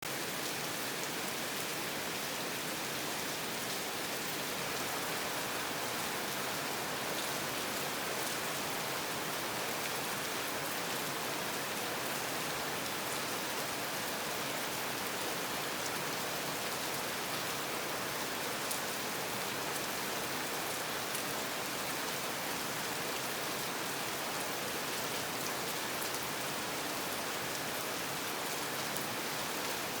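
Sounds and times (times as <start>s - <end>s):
rain falling: 0.1s - 30.0s.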